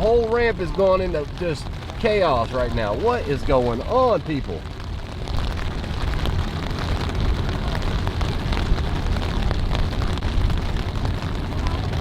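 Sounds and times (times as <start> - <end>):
continuous low rumble: 0.0 - 12.0
rain pattering: 0.0 - 12.0.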